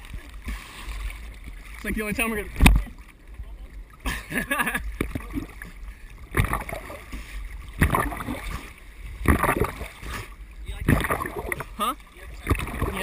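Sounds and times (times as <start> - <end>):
water sloshing over camera: 0.0 - 13.0.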